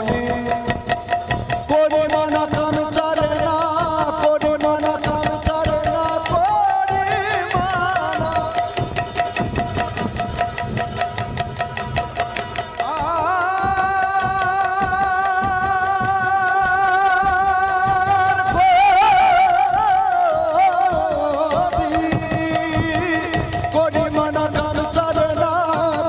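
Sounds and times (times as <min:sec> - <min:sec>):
man singing with vibrato: 0:00.0 - 0:09.8, 0:12.3 - 0:26.0
drum strokes: 0:00.0 - 0:26.0.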